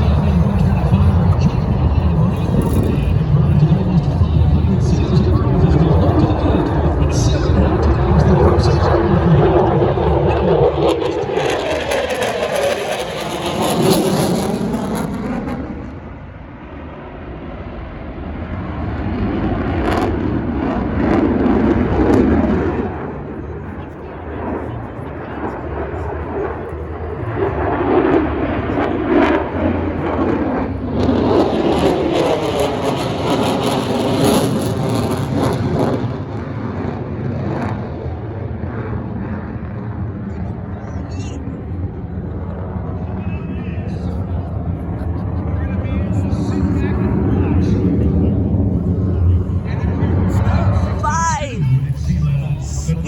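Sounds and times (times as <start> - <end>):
military jet engine roar: 0.0 - 53.0.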